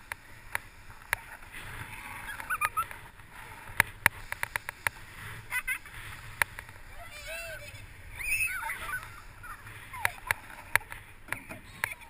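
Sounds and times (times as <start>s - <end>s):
bike rumbling over snow: 0.0s - 11.8s.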